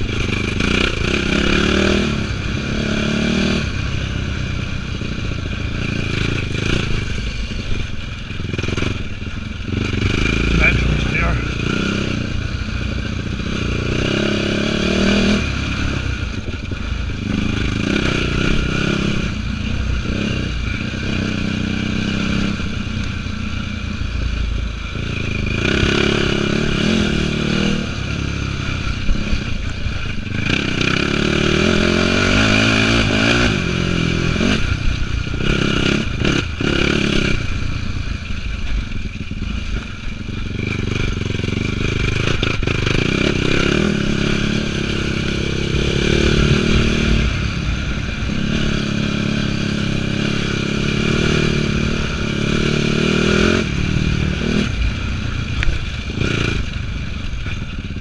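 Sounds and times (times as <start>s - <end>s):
quad engine running hard: 0.0s - 58.0s.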